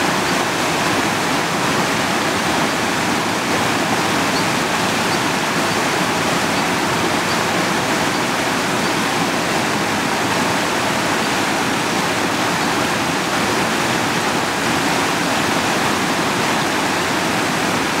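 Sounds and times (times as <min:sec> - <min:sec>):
creek water running: 0:00.0 - 0:18.0.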